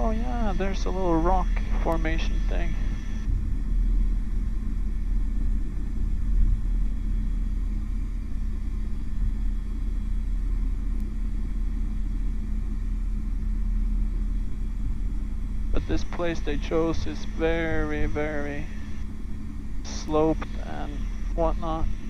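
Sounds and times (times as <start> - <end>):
helicopter cabin rumble: 0.0 - 22.0.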